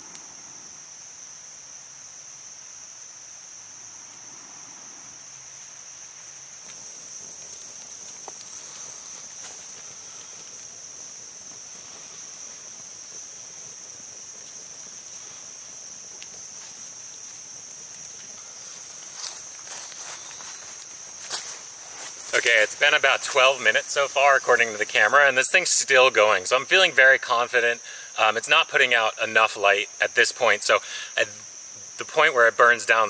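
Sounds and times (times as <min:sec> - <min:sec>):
high-pitched insect chorus: 0:00.0 - 0:33.0
torch crackling: 0:02.5 - 0:33.0.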